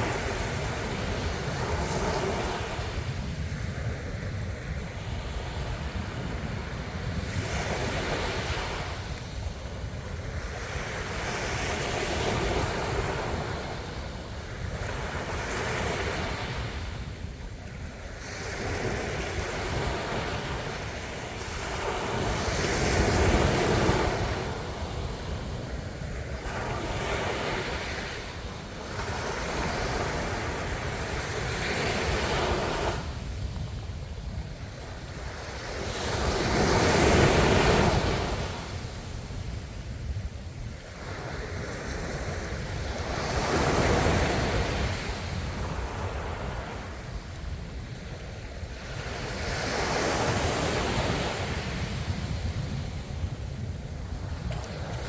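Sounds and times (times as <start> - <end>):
ocean waves on shore: 0.0 - 55.0.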